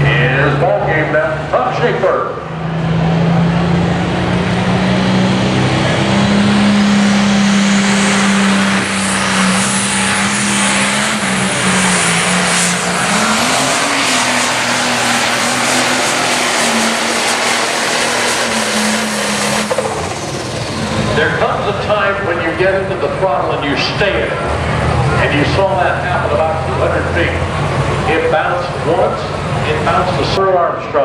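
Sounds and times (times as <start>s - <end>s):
diesel engine running under load: 0.0s - 31.0s.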